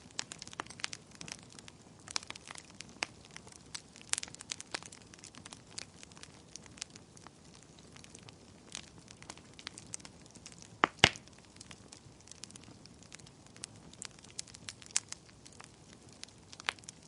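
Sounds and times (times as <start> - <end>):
loud pops of burning wood: 0.0 - 17.0
wood fire crackling: 0.0 - 17.0.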